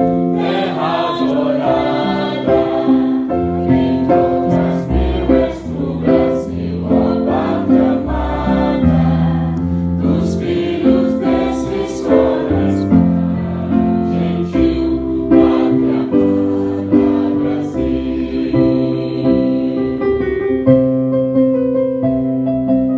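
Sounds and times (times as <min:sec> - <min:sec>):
choir singing: 0:00.0 - 0:20.4.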